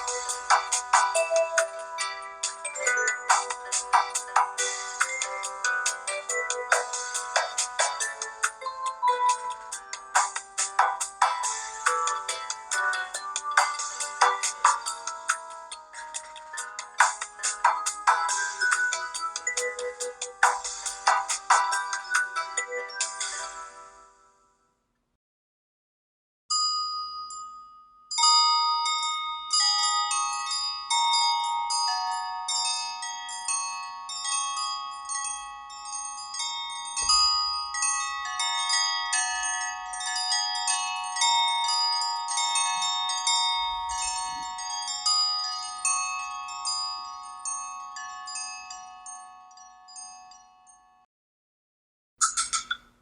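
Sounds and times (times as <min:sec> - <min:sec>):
phone ringtone melody: 0:00.0 - 0:24.3, 0:28.8 - 0:50.4.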